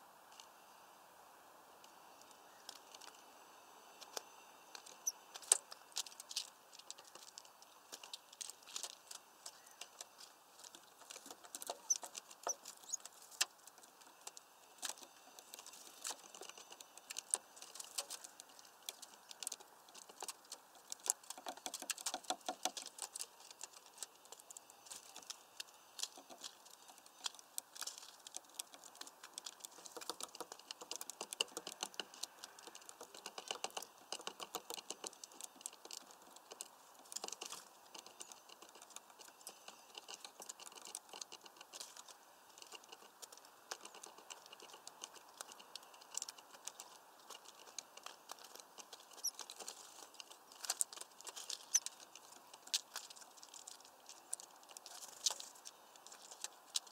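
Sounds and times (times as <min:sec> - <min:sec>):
birds pecking at mesh feeder: 0:01.8 - 0:56.9
bird claws scratching on perches: 0:04.0 - 0:56.9.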